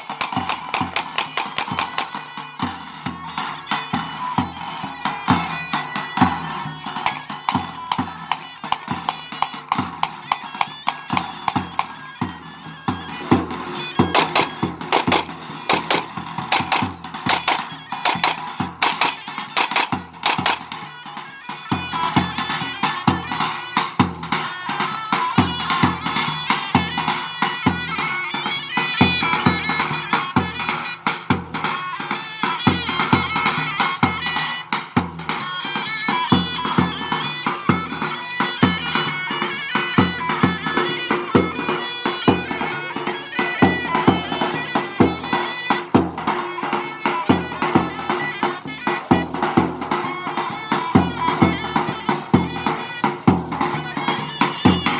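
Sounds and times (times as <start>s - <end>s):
heavily struck drum beat: 0.0s - 54.9s
shrill reed wind instrument: 0.0s - 54.9s.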